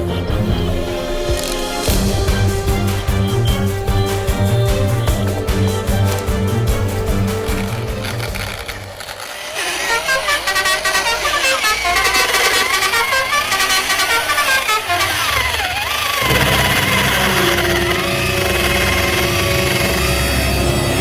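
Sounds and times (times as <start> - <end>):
falling glide tone: 0.0 - 21.0
low engine-like drone: 0.0 - 21.0
wavering horn-like tones: 0.0 - 21.0.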